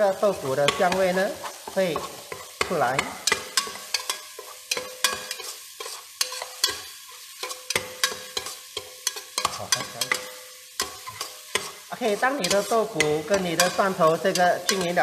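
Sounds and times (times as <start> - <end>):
frying sizzle: 0.0 - 15.0
spatula scraping a metal pot: 0.4 - 15.0.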